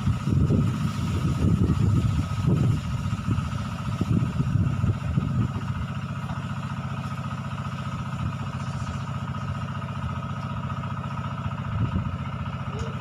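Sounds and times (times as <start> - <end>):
small engine idling with whine: 0.0 - 13.0
uneven low rumbling: 0.0 - 13.0.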